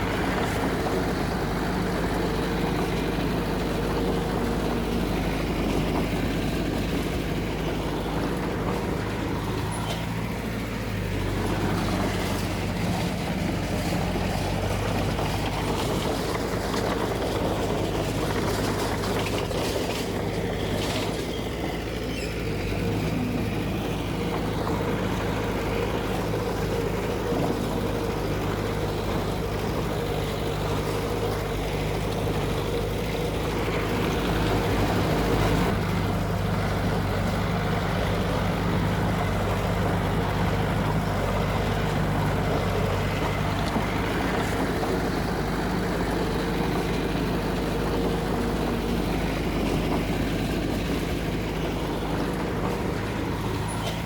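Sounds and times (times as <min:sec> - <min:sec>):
heavy machinery diesel engine running: 0:00.0 - 0:54.0.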